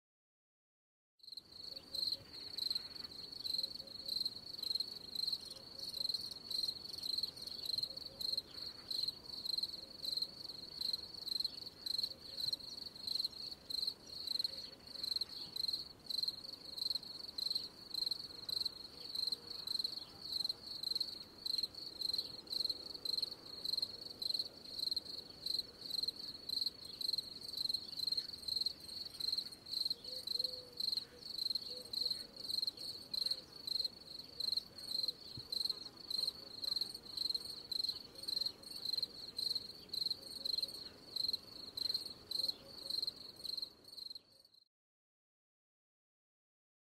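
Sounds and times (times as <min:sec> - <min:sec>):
night insects chirping: 0:01.3 - 0:44.6.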